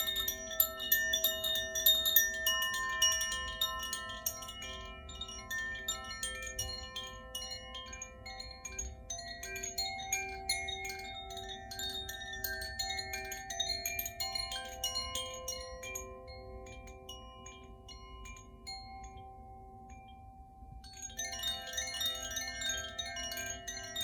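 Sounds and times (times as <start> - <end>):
wind chime ringing: 0.0 - 24.0.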